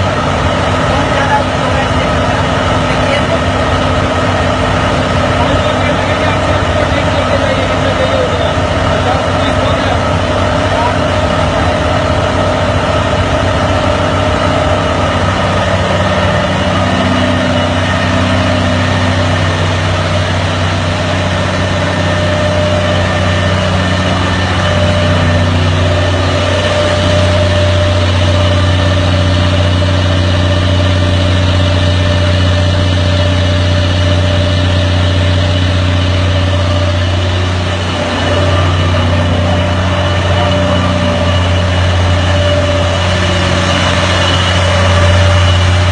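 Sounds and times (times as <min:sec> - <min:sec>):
generator engine running: 0:00.0 - 0:45.9.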